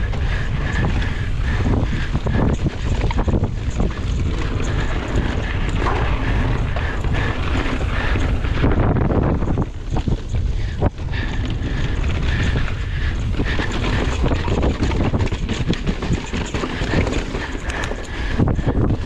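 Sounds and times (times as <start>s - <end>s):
bike clattering over rough ground: 0.0s - 19.0s
wind buffeting microphone: 0.0s - 19.0s.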